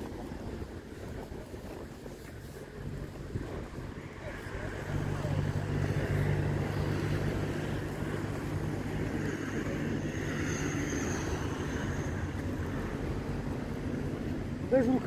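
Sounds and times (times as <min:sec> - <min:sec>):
low engine drone: 0:00.0 - 0:15.0
outdoor rushing noise: 0:00.0 - 0:15.0.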